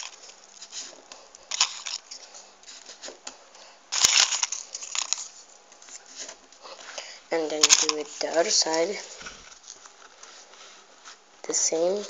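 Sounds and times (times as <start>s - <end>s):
paper rustling and scraping: 0.0s - 3.2s, 3.9s - 12.0s.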